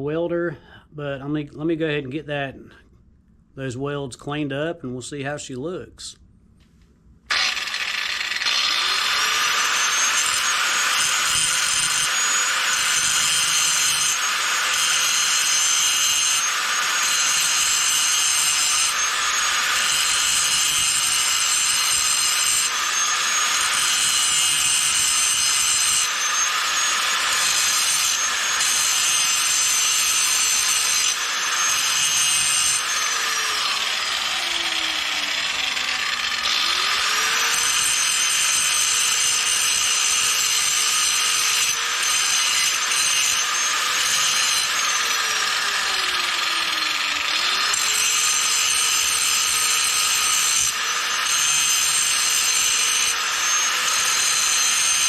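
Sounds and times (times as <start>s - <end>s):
electric grinder grinding steel: 7.3s - 55.0s.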